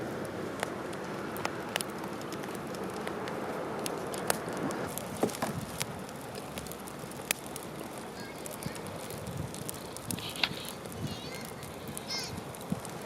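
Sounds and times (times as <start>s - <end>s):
fire crackles and pops: 0.0s - 13.0s
hiss of flames: 0.0s - 13.0s.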